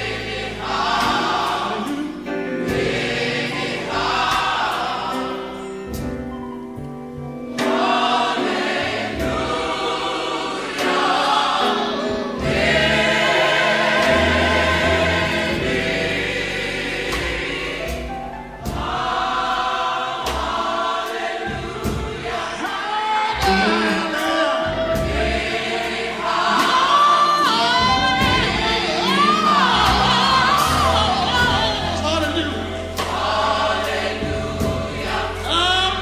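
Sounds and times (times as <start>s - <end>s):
gospel choir singing: 0.0s - 36.0s.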